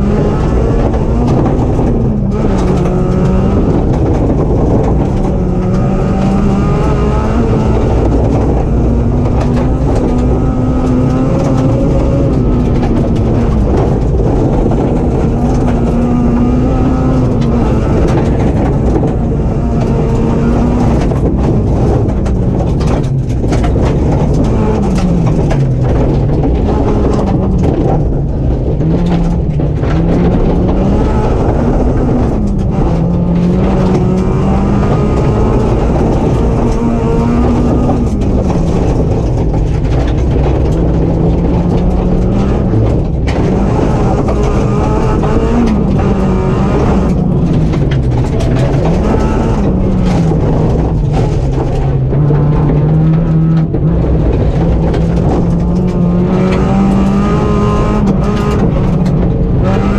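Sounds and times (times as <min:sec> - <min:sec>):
gravel clattering under car: 0:00.0 - 0:59.9
rally car engine running hard: 0:00.0 - 0:59.9.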